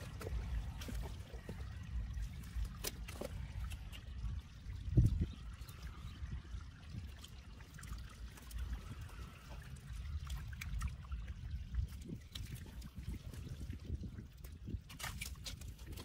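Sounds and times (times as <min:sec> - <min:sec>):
small water splashes: 0:00.0 - 0:16.0
water trickling and dripping: 0:00.0 - 0:16.0.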